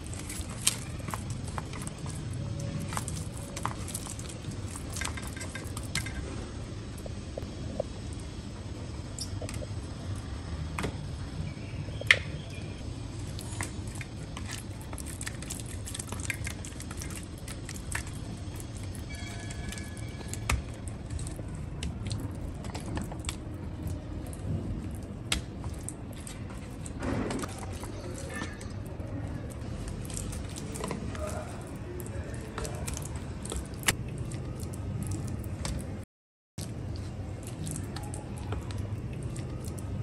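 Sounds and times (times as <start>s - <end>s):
hands squishing wet paste: 0.0s - 6.2s, 9.1s - 36.0s, 36.6s - 40.0s
steady low hum: 0.0s - 36.0s.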